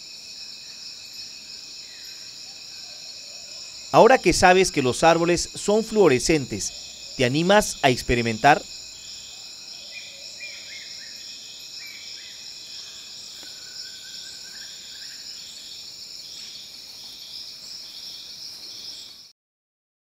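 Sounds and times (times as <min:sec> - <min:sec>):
crickets and insects buzzing: 0:00.0 - 0:19.3
pulsing insect call: 0:00.0 - 0:19.3
short insect calls: 0:00.0 - 0:19.3.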